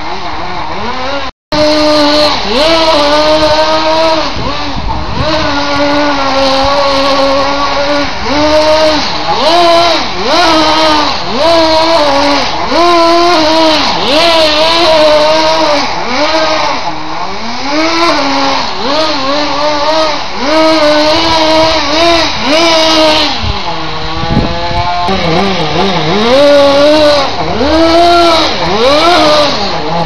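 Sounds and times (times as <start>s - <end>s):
electric motor and gears whining: 0.0s - 30.0s.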